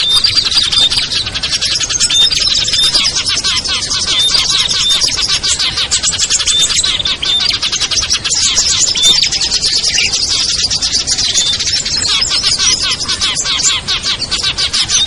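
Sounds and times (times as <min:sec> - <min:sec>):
songbirds chirping and twittering: 0:00.0 - 0:15.0
whistled bird notes: 0:00.0 - 0:15.0.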